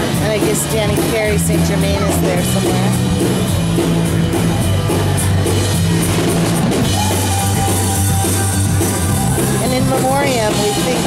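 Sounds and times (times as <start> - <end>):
drum kit with cymbal hits: 0.0 - 11.0
steady bass notes: 0.0 - 11.0.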